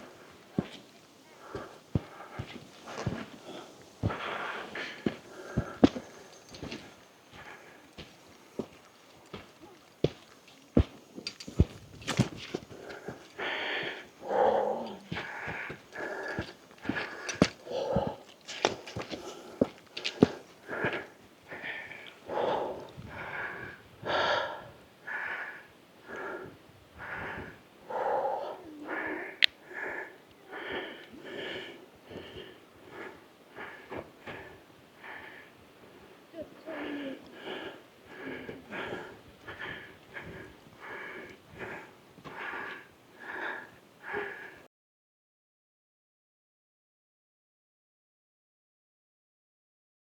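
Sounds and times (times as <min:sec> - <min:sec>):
person panting: 0:00.0 - 0:44.6
person breathing hard: 0:00.0 - 0:44.7.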